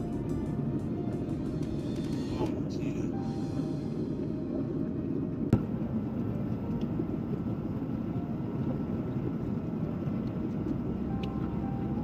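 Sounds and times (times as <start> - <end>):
airplane cabin engine rumble: 0.0 - 12.0
faint steady tones: 0.0 - 12.0.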